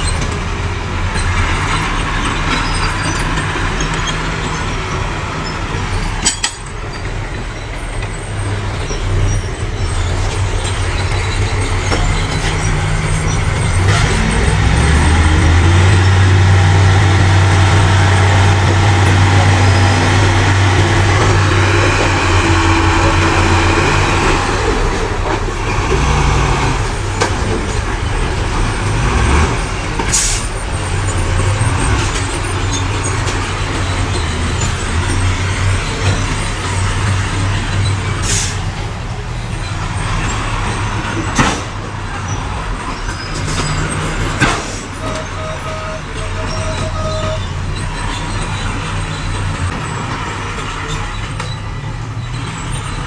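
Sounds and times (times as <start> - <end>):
heavy diesel engines humming: 0.0 - 53.0.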